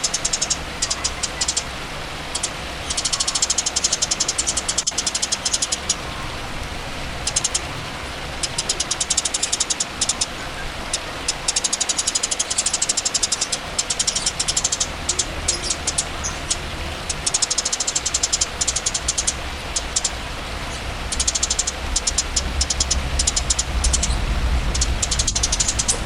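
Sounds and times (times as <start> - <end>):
songbird rattling trill: 0.0 - 6.3, 7.2 - 26.0
steady low hum: 0.0 - 26.0.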